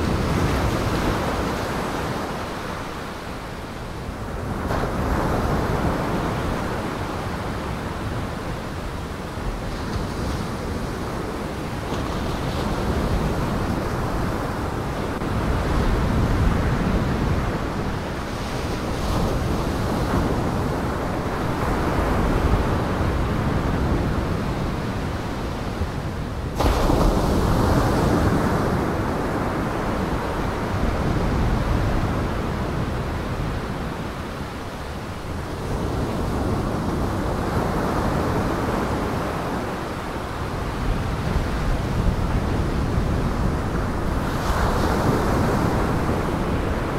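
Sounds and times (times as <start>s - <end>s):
gusting wind: 0.0s - 46.9s
waves breaking on shore: 0.0s - 46.9s.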